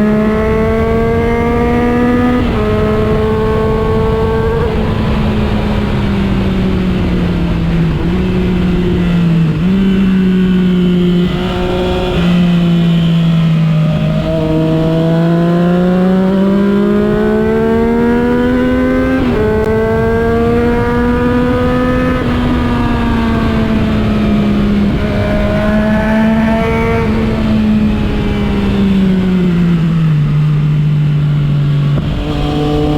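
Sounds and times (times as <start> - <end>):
low wind rumble: 0.0 - 32.9
motorcycle engine: 0.0 - 32.9.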